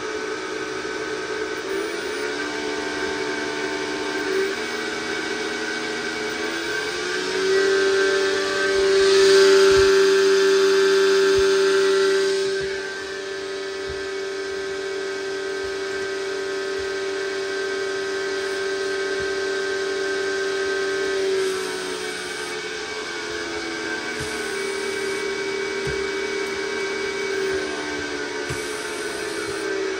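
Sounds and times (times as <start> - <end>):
electric motor whine: 0.0 - 29.9.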